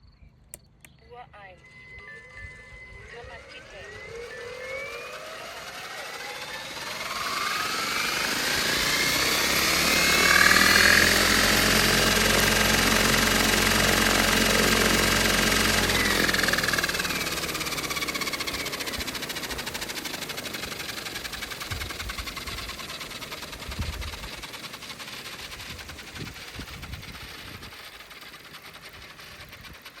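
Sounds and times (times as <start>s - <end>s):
electric drive whining: 0.0s - 30.0s
diesel engine running hard: 3.2s - 30.0s.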